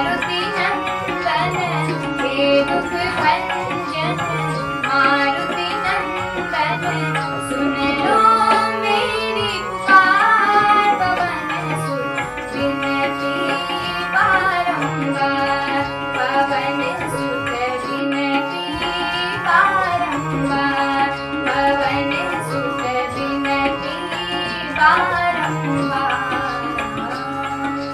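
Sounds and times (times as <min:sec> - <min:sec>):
bending melodic line: 0:00.0 - 0:27.9.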